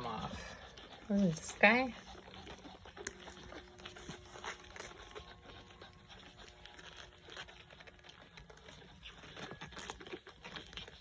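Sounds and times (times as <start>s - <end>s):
puppies clicking and rustling: 0.0s - 11.0s.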